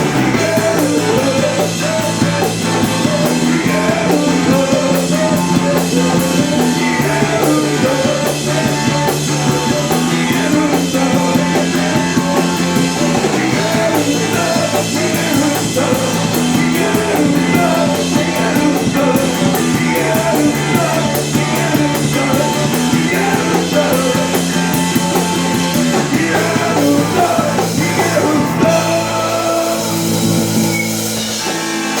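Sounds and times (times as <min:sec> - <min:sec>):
bass guitar notes: 0:00.0 - 0:32.0
drums: 0:00.0 - 0:32.0
rock band playing: 0:00.0 - 0:32.0.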